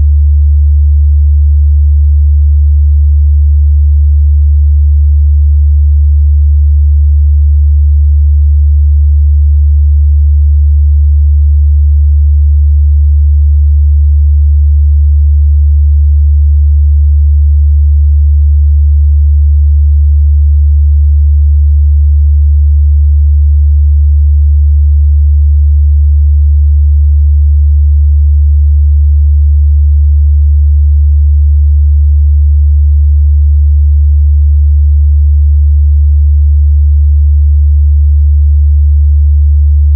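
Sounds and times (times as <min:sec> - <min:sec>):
low sine-wave test tone: 0:00.0 - 0:39.9.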